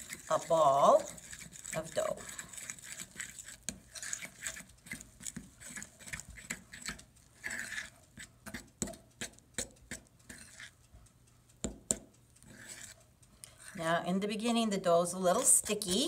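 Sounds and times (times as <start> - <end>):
fork scraping and clicking on bowl: 0.0 - 13.9, 15.3 - 16.0.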